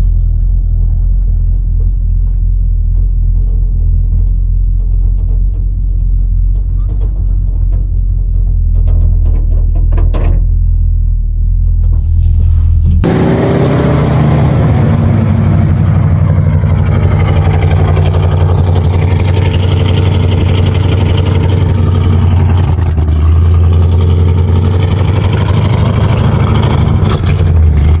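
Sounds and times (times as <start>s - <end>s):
truck engine running under load: 0.0s - 28.0s.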